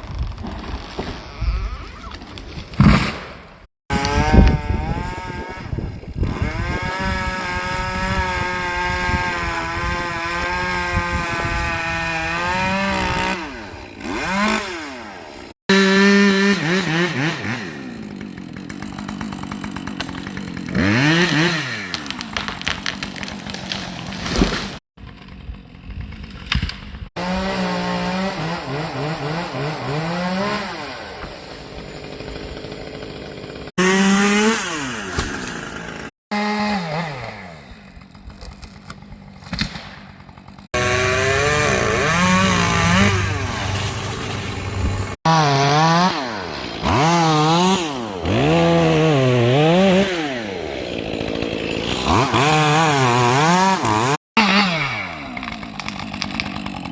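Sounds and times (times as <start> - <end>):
chainsaw revving: 3.9 - 26.1, 27.1 - 56.9.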